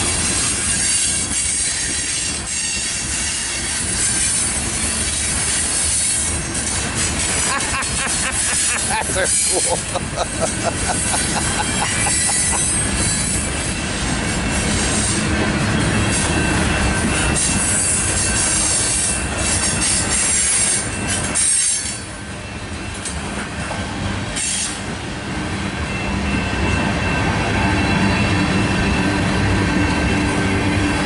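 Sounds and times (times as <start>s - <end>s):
high wheel squeal: 0.0s - 23.2s, 24.3s - 24.9s, 25.8s - 31.0s
steel wheels rumbling on rails: 0.0s - 31.0s.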